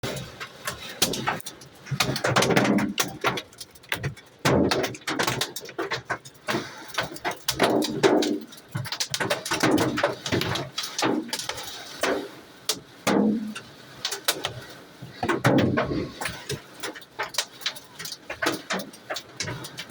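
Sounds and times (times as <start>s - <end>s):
hailstones striking hard surfaces: 0.0s - 19.9s.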